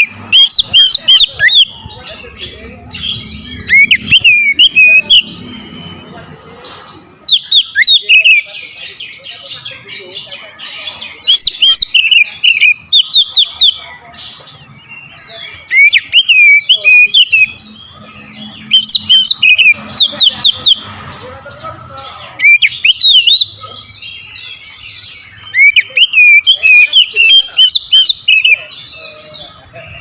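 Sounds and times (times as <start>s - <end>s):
bird singing whistled notes: 0.0s - 6.2s, 7.2s - 9.8s, 11.0s - 13.9s, 14.6s - 21.0s, 21.8s - 30.0s
bird chattering: 0.0s - 30.0s.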